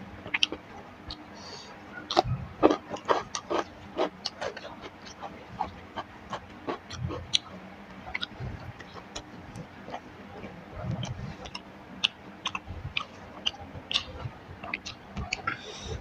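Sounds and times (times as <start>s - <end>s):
chewing: 0.2s - 16.0s.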